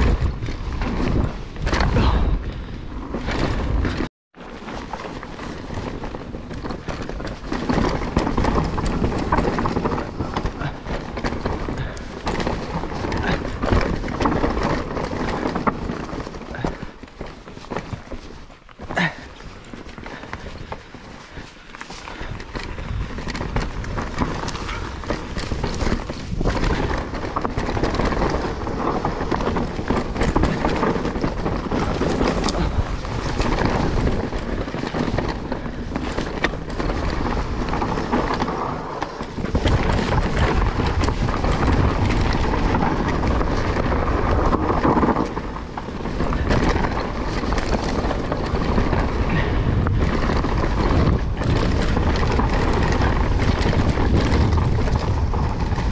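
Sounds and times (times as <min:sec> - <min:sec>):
bike chain and frame rattling: 0:00.0 - 0:55.9
tyres rumbling on dirt: 0:00.0 - 0:55.9.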